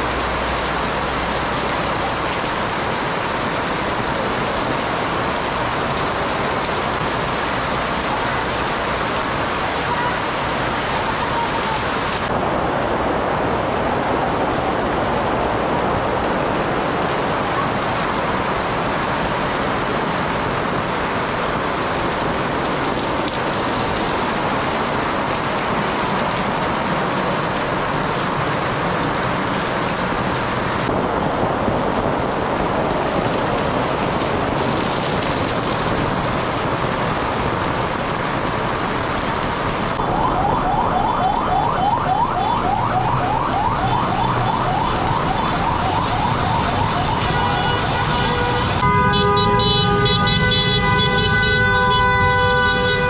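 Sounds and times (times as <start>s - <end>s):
torrential rain on concrete: 0.0s - 53.0s.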